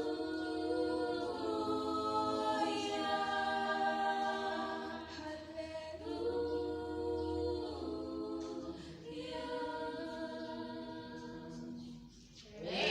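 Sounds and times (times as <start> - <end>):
group singing a cappella: 0.0 - 12.9.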